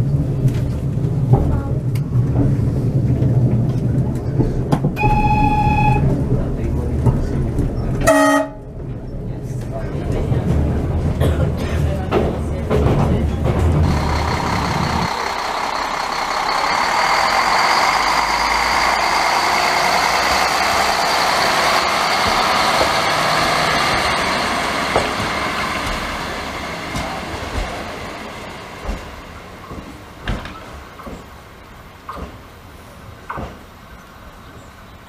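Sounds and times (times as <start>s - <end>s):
diesel railcar passing with whine: 0.0s - 35.0s
low rumble inside moving railcar: 0.0s - 35.0s.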